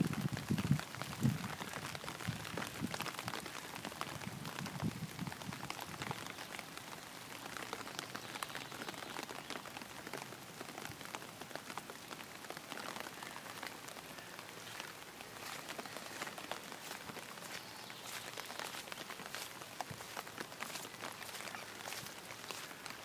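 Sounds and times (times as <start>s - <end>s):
rain falling on pond water: 0.0s - 23.0s.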